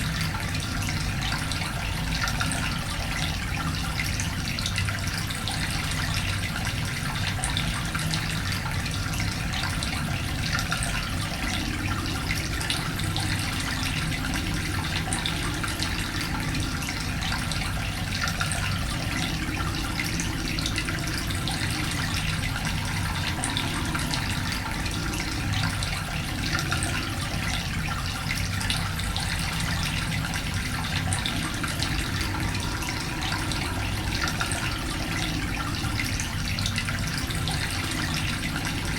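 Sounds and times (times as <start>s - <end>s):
water running: 0.0s - 38.9s.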